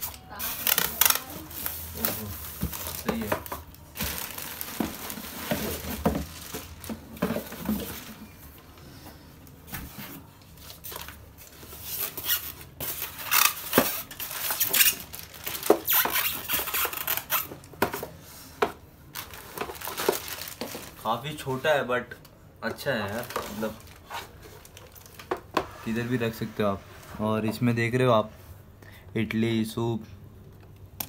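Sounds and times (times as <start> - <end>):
cardboard and packing rustling: 0.0 - 28.3.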